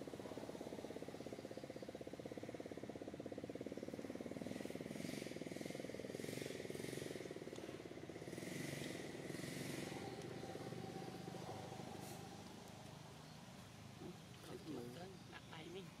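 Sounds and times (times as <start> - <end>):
small engine throbbing: 0.0 - 13.5.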